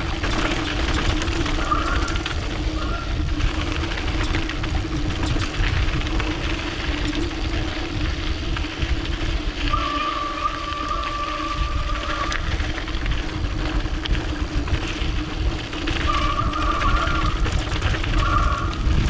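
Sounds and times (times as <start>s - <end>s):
high whine: 0.0s - 19.0s
steady buzz: 0.0s - 19.0s
tyres rolling over dirt: 0.0s - 19.0s
wind buffeting microphone: 0.0s - 19.0s.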